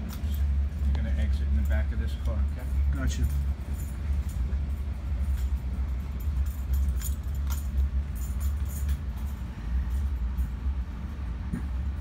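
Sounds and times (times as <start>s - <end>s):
fittings clinking and rattling: 0.0s - 12.0s
train rumbling: 0.0s - 12.0s.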